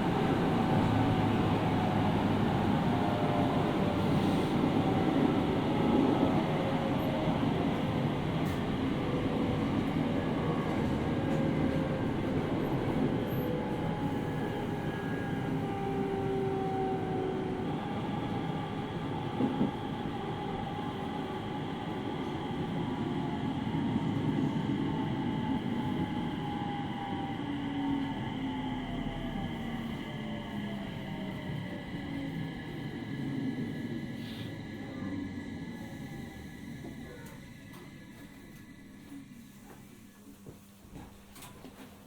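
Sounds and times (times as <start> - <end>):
train wheel and track rumble: 0.0 - 42.0.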